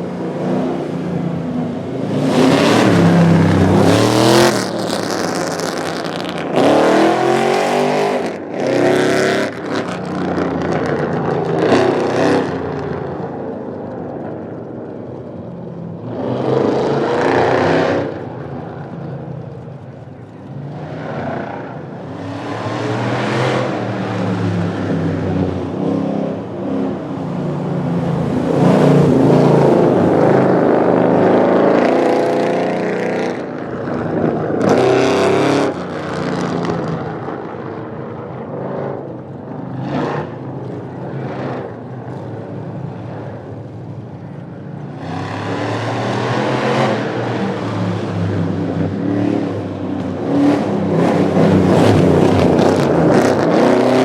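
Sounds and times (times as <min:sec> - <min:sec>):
drag racing cars revving: 0:00.0 - 0:54.0.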